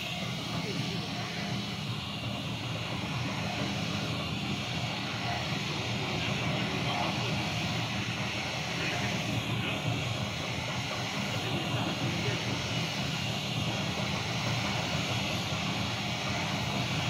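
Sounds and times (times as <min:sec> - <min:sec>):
mixing mill mechanical drone: 0:00.0 - 0:17.0.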